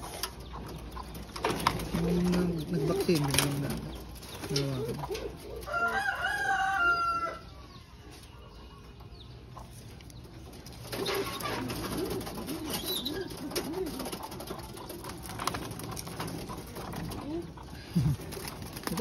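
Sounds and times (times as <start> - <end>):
pigeons cooing: 0.0 - 7.6, 8.6 - 19.0.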